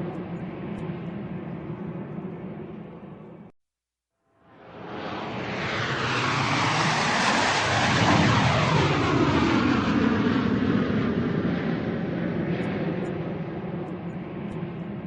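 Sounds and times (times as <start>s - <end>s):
airplane flying overhead: 0.0s - 3.5s, 4.5s - 15.0s.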